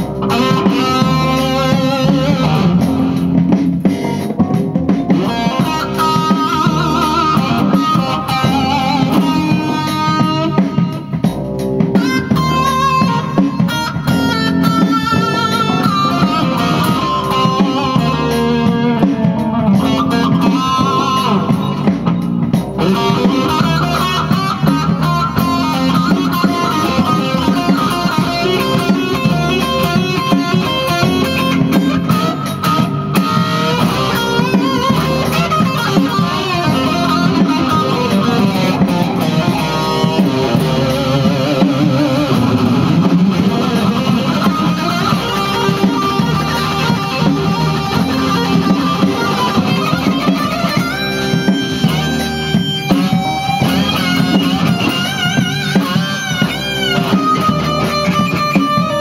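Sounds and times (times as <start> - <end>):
electric guitar solo: 0.0 - 59.0.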